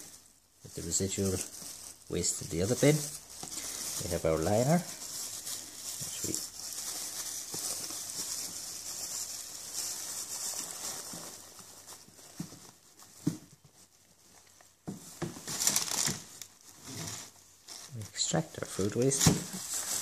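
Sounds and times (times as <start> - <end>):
plastic bin liner crinkling: 0.0 - 20.0.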